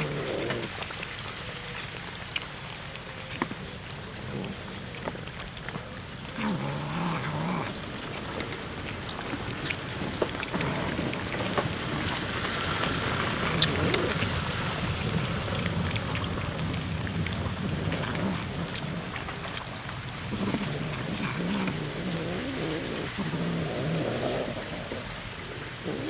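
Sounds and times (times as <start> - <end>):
low cat vocalisation: 0.0 - 0.8, 3.4 - 26.0
cats chewing: 0.0 - 26.0.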